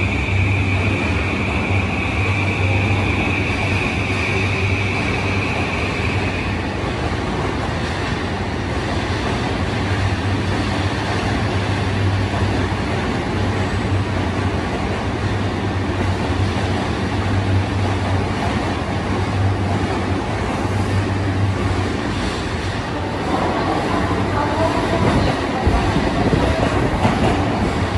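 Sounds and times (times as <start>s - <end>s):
electric train running: 0.0s - 27.9s.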